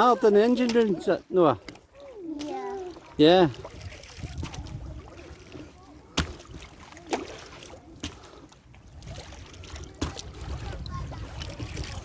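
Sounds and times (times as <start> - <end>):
paddles in water: 0.0 - 12.0.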